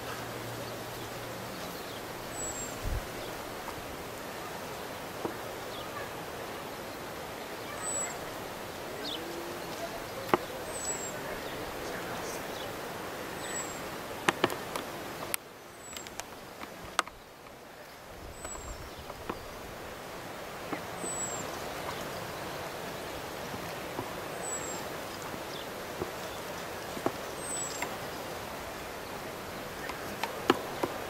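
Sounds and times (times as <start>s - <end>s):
sea surf breaking on rocks: 0.0s - 31.0s.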